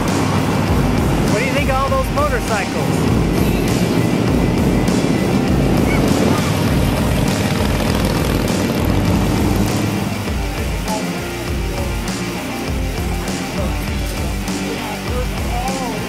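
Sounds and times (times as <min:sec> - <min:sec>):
motorcycle engines droning: 0:00.0 - 0:16.0
rock music: 0:00.0 - 0:16.0.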